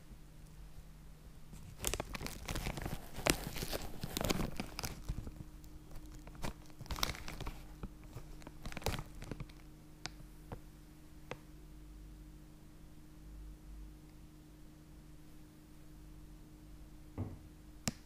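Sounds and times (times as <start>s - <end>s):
faint steady low hum: 0.0s - 18.0s.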